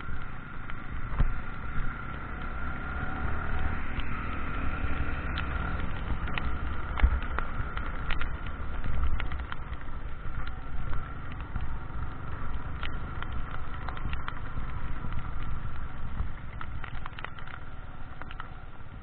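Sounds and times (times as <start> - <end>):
motorcycle engine running: 0.0 - 19.0
raindrops ticking on camera: 0.0 - 19.0
wind rumbling on microphone: 0.0 - 19.0.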